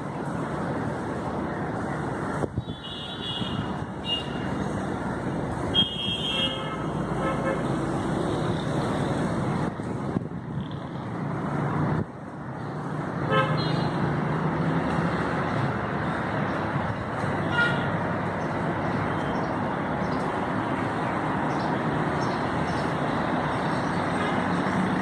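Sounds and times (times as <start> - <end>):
city road traffic hum: 0.0 - 25.0.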